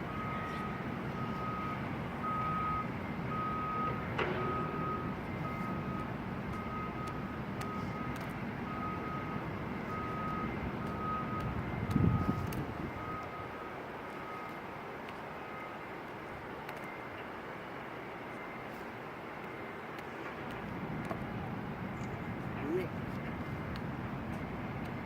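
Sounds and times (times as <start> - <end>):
reversing alarm beeping: 0.0 - 25.0.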